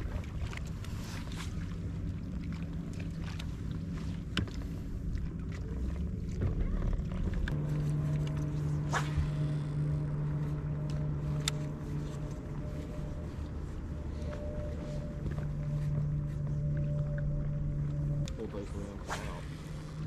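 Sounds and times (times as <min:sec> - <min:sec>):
electric boat motor humming: 0:00.0 - 0:20.0
wind and water noise: 0:00.0 - 0:20.0.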